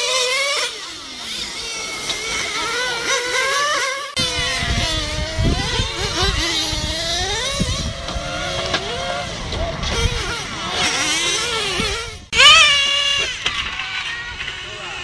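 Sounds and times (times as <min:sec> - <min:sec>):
engines revving: 0:00.0 - 0:15.0.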